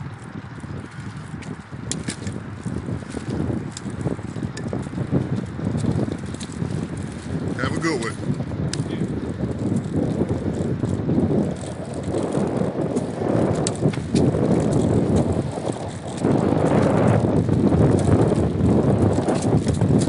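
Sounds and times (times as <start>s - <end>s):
tyre and drivetrain noise: 0.0s - 20.0s
wind on microphone: 0.0s - 20.0s.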